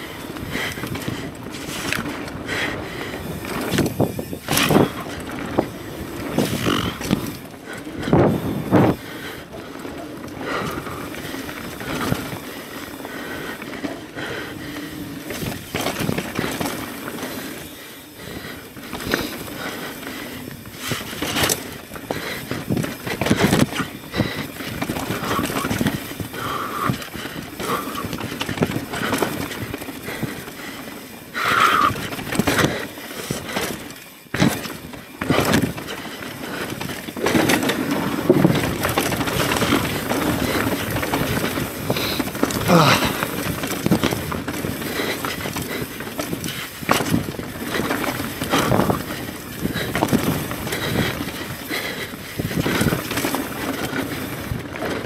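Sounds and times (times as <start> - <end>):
bike knocking and rattling: 0.0 - 55.0
bike tyre noise: 0.0 - 55.0
wind noise: 0.0 - 55.0.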